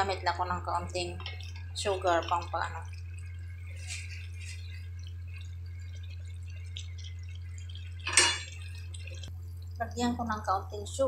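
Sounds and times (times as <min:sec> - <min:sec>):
soup bubbling: 0:00.0 - 0:11.0
steady low hum: 0:00.0 - 0:11.0.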